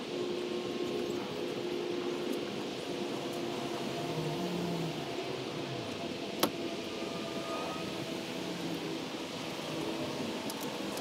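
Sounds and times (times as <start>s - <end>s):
mechanical hum with held tones: 0.0s - 11.0s.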